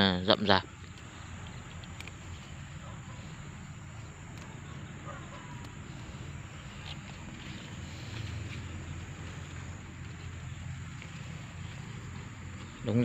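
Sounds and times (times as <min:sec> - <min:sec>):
handling of bean vines: 0:00.0 - 0:13.0
low steady rumble: 0:00.0 - 0:13.0.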